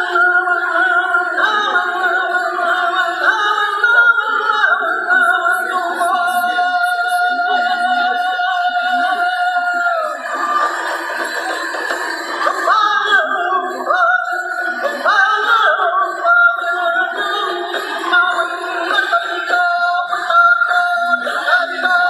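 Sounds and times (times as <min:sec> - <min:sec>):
person singing long held notes: 0:00.0 - 0:22.0.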